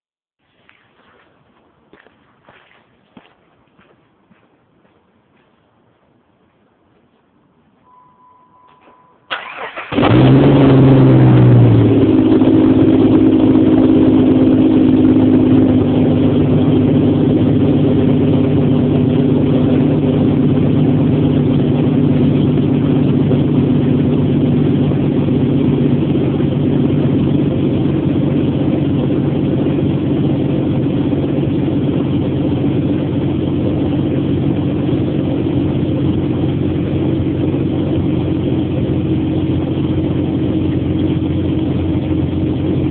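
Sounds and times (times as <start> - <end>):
car engine starting and idling: 7.8 - 42.9.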